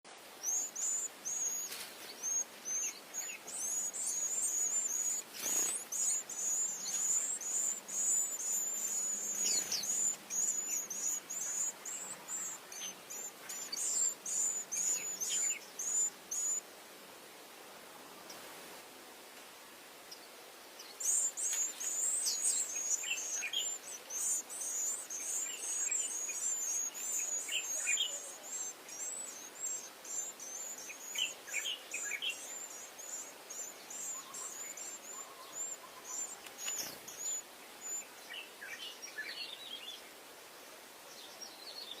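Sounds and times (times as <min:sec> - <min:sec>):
birds chirping: 0:00.0 - 0:16.6, 0:20.1 - 0:40.0.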